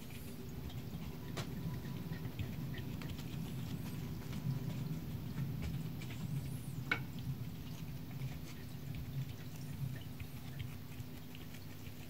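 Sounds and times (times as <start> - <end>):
low indoor hum: 0.0 - 12.0.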